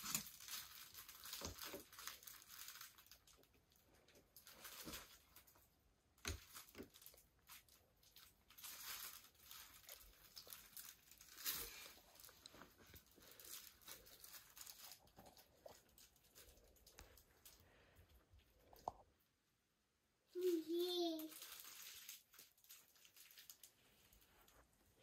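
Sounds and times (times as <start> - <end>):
paper crinkling: 0.0 - 17.9, 20.4 - 25.0.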